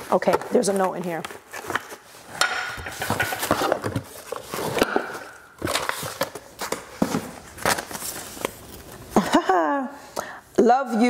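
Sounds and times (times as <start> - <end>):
packaging and paper rustling: 0.0 - 9.2.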